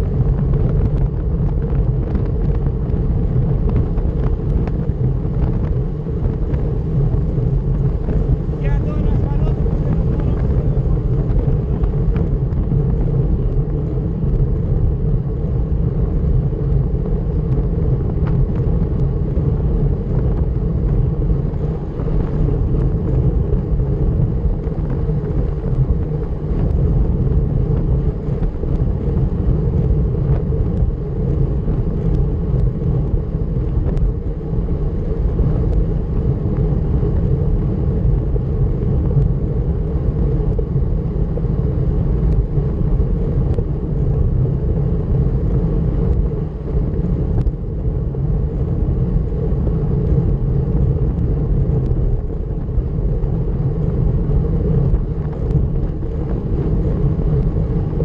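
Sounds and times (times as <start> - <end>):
road rumble: 0.0 - 58.0
wind rush: 0.0 - 58.0.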